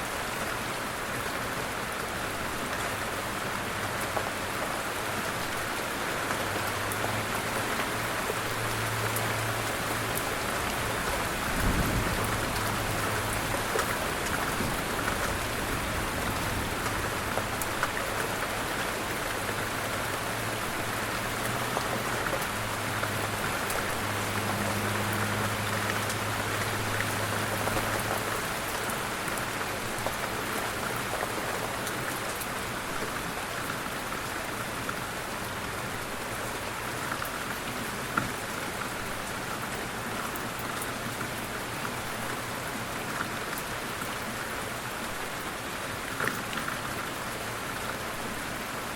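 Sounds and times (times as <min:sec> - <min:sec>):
light rain falling: 0:00.0 - 0:48.9.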